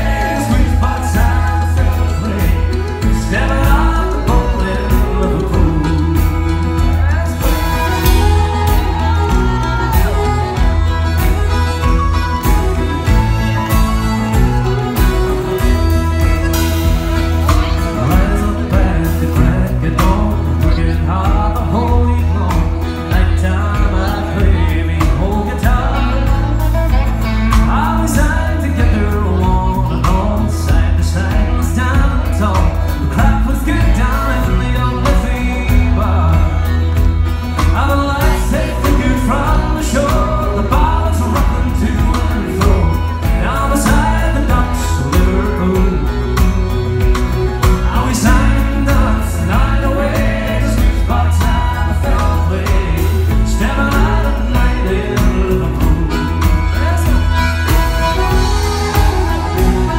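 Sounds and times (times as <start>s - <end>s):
man singing into microphone: 0.0s - 11.5s, 14.4s - 59.9s
piano accordion: 0.0s - 21.0s, 30.8s - 59.9s
acoustic guitar: 0.0s - 59.9s
bass line: 0.0s - 59.9s.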